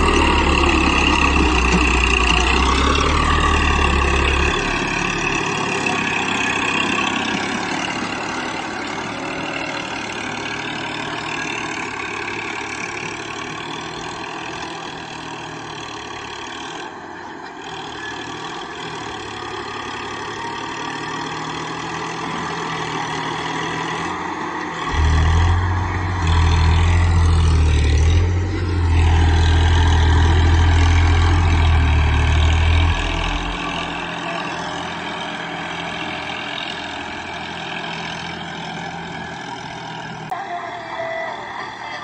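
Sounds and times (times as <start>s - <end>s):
tractor diesel engine labouring: 0.0s - 42.0s.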